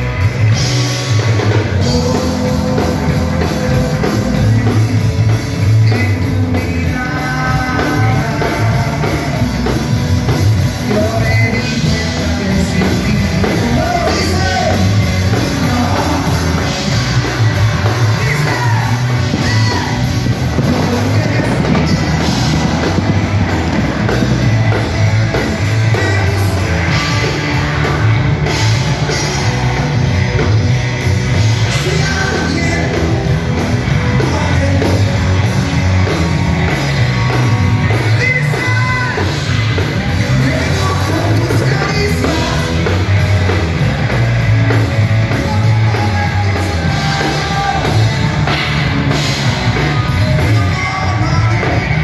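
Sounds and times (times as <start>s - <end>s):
live rock band playing: 0.0s - 52.0s
lead singer's vocal: 1.0s - 30.5s, 31.2s - 36.2s, 37.2s - 44.2s, 44.8s - 52.0s.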